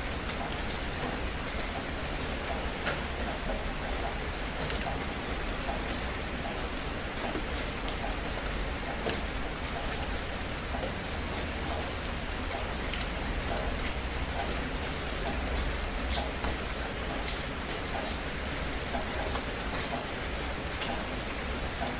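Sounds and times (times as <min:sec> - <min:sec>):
raindrops ticking: 0:00.0 - 0:21.9.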